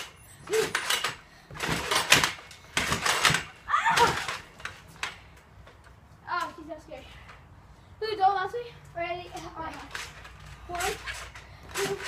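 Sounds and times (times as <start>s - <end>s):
trampoline thumping and creaking: 0.0s - 12.0s.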